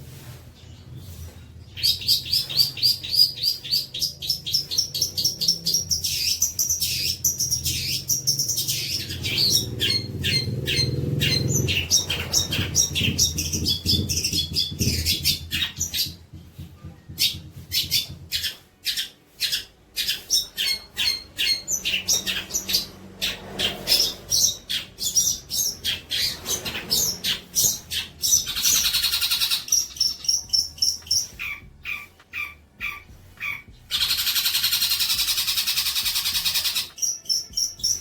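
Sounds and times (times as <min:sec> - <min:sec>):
songbird chirping: 0:00.0 - 0:16.3, 0:17.0 - 0:38.0.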